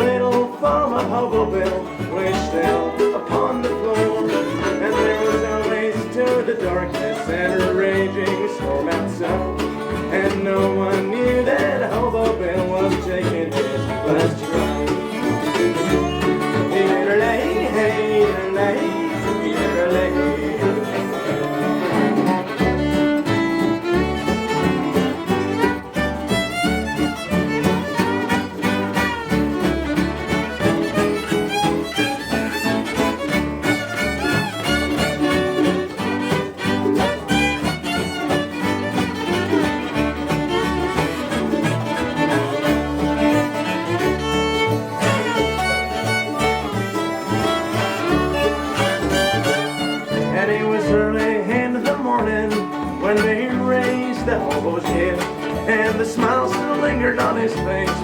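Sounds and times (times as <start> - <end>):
bass line: 0.0 - 58.0
fiddle: 0.0 - 58.0
strummed guitar: 0.0 - 58.0.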